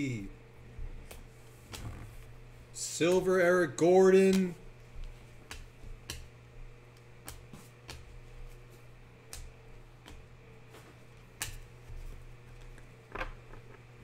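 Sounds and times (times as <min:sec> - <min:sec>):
steady low hum: 0:00.0 - 0:14.0
trading cards clicking and flicking: 0:01.0 - 0:02.3, 0:03.0 - 0:03.5, 0:04.1 - 0:14.0.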